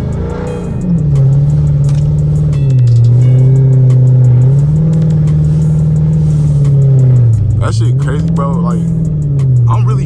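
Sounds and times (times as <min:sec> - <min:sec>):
car engine pulling away: 0:00.0 - 0:10.0
loud music with deep bass: 0:00.0 - 0:10.0.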